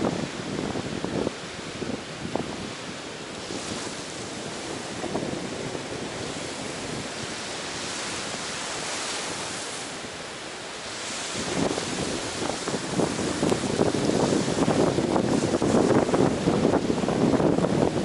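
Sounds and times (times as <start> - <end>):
ocean waves washing onto beach: 0.0 - 18.0.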